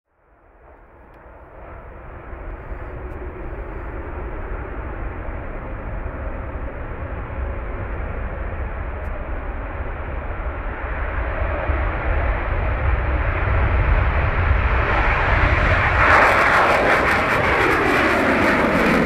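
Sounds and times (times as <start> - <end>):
jet engines roaring: 0.2 - 19.0.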